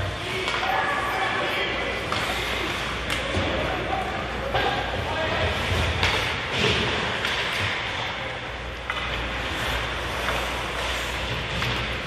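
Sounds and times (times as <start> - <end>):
ice hockey arena noise: 0.0 - 12.0.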